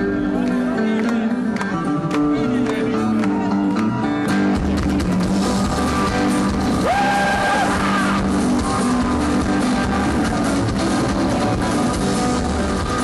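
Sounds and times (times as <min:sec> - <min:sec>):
rockabilly band playing live: 0:00.0 - 0:13.0.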